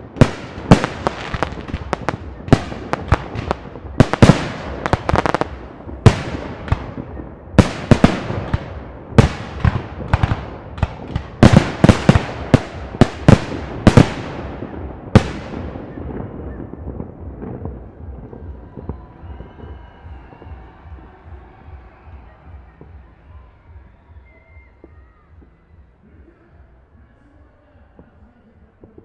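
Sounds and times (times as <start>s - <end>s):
fireworks bangs: 0.0s - 25.6s
rolling echo: 0.0s - 27.0s.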